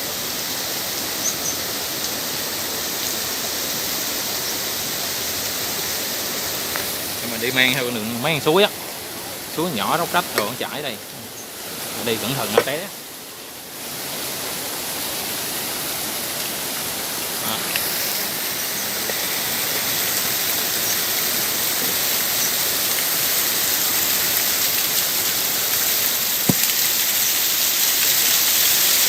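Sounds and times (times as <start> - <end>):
small stream babbling: 0.0 - 29.0.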